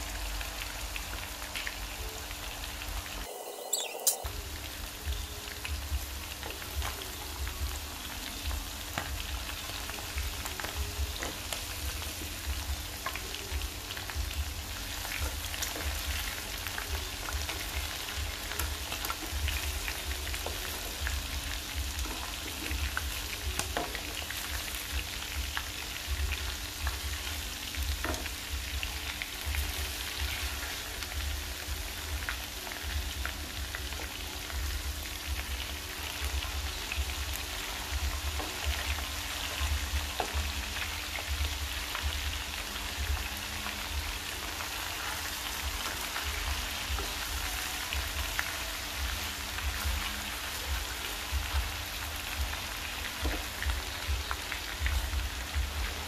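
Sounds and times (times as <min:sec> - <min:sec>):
meat sizzling in hot oil: 0:00.0 - 0:56.0.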